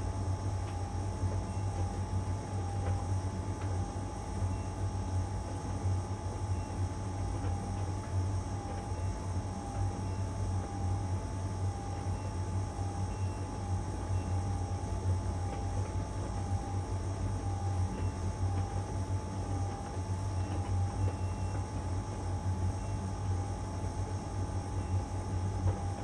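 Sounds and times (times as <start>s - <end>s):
dryer low hum: 0.0s - 26.0s.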